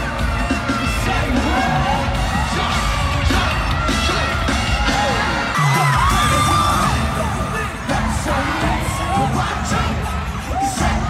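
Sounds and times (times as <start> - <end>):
crowd screaming and cheering: 0.0 - 11.0
pop music over sound system: 0.0 - 11.0.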